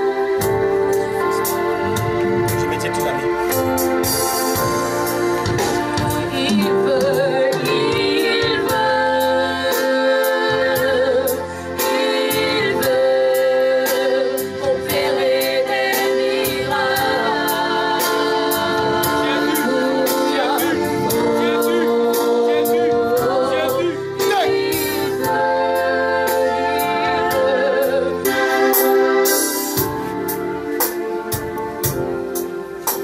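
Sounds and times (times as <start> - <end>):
keyboard chords: 0.0 - 33.0
voices singing gospel: 0.0 - 33.0
steady beat: 0.4 - 10.0, 14.8 - 33.0.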